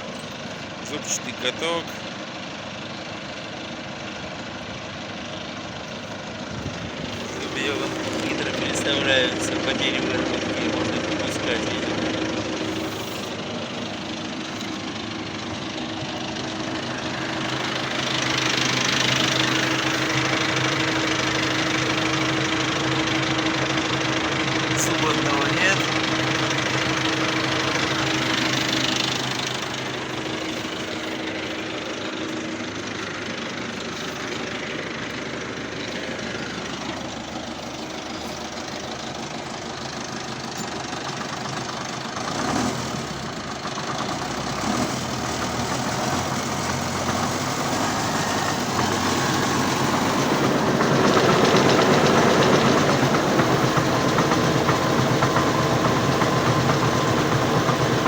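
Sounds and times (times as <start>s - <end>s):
rotary cultivator working: 0.0s - 58.0s
tractor engine running: 0.0s - 58.0s.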